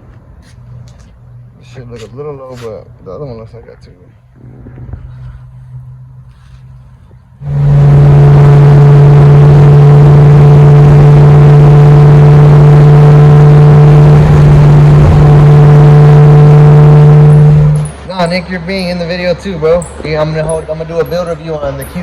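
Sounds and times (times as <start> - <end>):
car engine and exhaust droning: 0.0 - 22.0.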